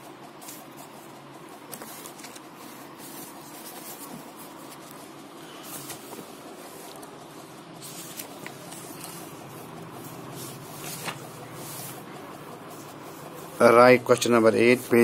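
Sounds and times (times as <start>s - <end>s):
steady low hum: 0.0s - 15.0s
book pages turning: 0.4s - 13.8s.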